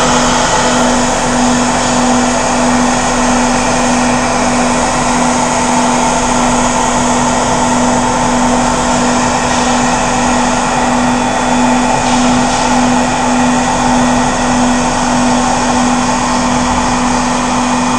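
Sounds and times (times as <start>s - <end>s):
industrial vacuum machine running: 0.0s - 17.9s.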